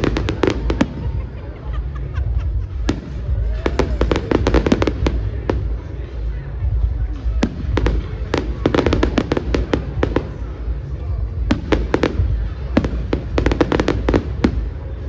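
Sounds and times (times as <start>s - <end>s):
fireworks cracks and bangs: 0.0s - 1.6s, 2.4s - 15.0s.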